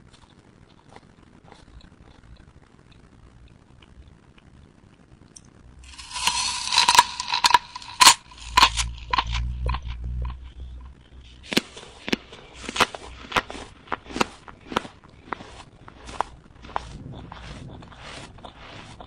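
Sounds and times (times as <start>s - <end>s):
apple crunching and chewing: 0.0s - 19.0s.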